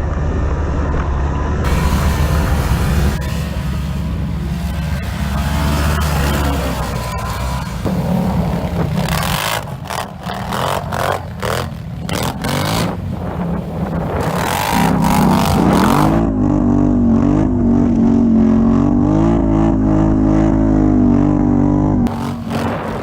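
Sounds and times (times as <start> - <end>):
atv engine revving: 1.6 - 23.0.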